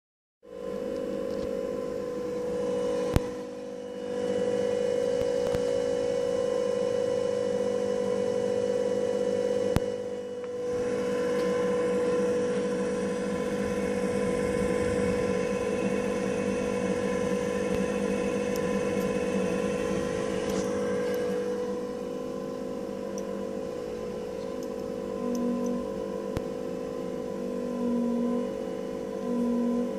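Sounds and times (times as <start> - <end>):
small electric fan humming: 0.4 - 29.9.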